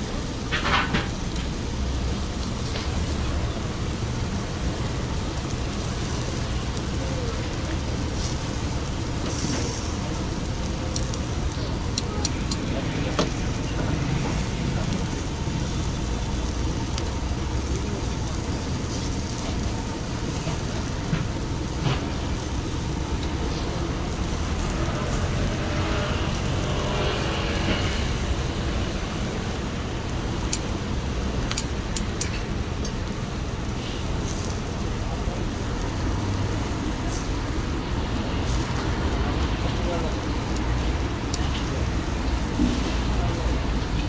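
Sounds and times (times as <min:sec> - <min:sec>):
faint voices: 0:00.0 - 0:44.0
low rumbling background noise: 0:00.0 - 0:44.0.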